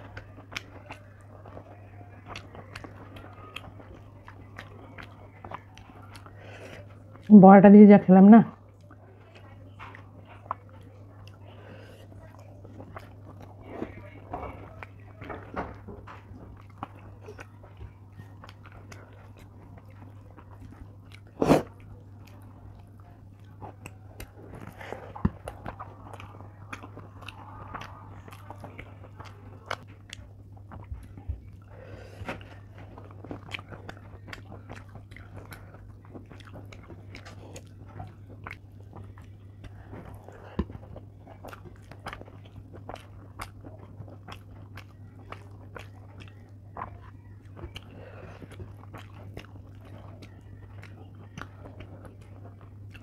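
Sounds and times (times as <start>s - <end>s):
person chewing food: 0.0s - 7.4s, 8.5s - 53.0s.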